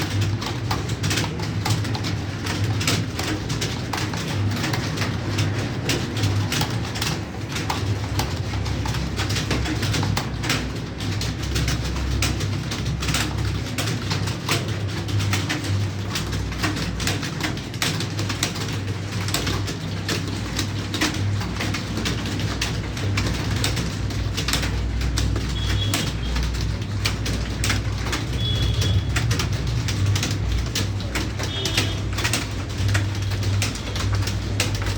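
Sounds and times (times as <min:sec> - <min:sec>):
keyboard typing: 0:00.0 - 0:34.9.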